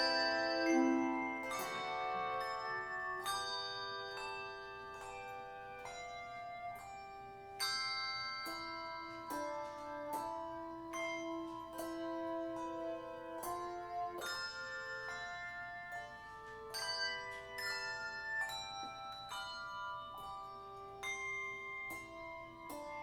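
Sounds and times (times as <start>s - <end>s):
bell-like instrumental music: 0.0s - 23.0s.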